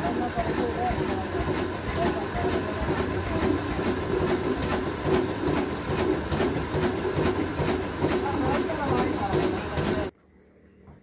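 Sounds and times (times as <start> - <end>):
diesel engine clattering: 0.0 - 10.1.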